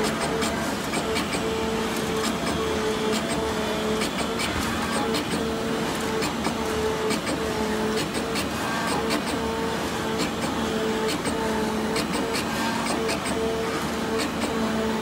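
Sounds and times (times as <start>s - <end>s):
cutting machine humming: 0.0s - 15.0s.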